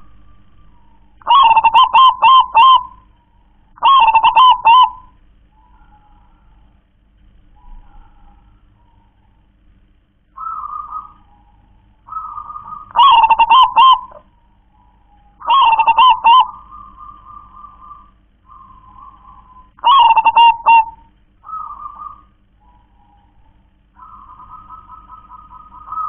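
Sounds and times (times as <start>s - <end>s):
dove cooing: 0.0s - 6.8s, 7.4s - 9.6s, 10.3s - 26.0s.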